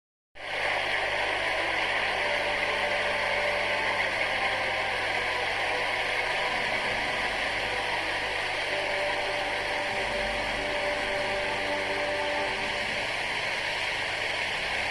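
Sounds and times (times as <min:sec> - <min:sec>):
steady rushing noise: 0:00.4 - 0:14.9.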